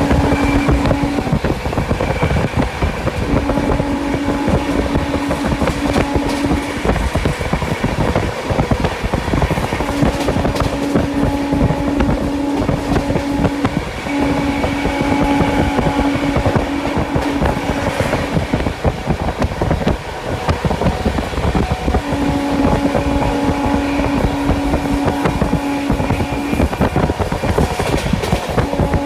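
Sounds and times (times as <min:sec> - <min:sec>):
train wheels clattering over track: 0:00.0 - 0:29.0.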